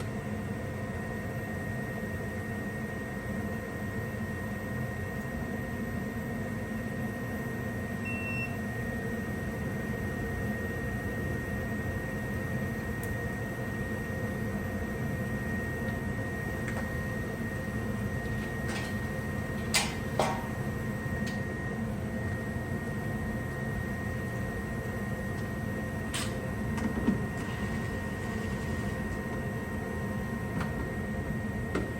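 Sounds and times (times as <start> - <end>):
gas furnace blower humming: 0.0 - 31.9.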